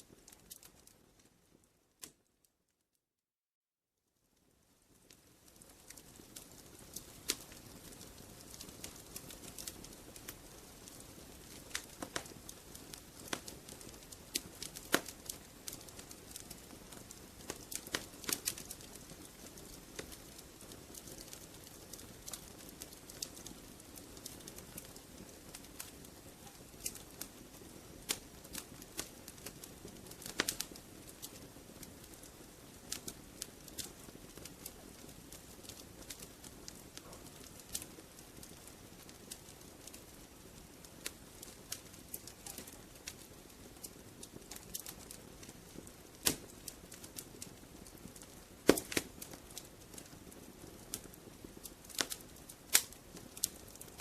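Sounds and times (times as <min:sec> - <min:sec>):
wood fire crackling: 0:00.0 - 0:02.3, 0:04.4 - 0:54.0.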